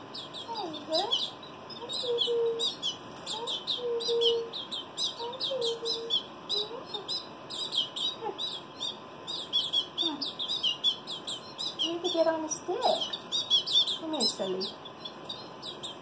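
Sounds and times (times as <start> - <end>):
baby canaries chirping: 0.0 - 16.0.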